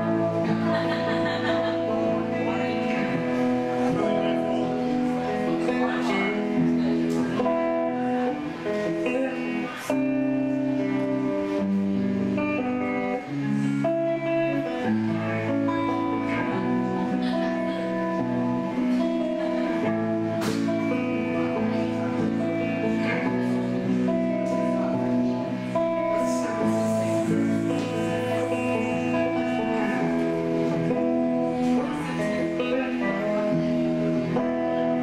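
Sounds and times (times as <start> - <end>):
electric guitar playing: 0.0 - 35.0.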